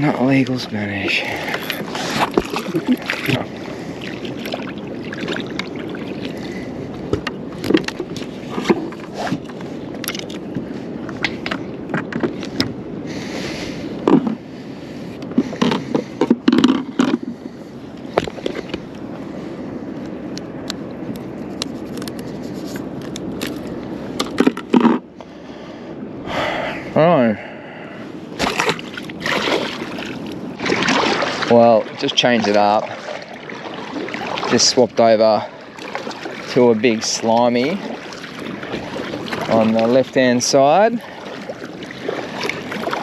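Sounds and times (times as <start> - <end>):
water and wind wash: 0.0 - 43.0.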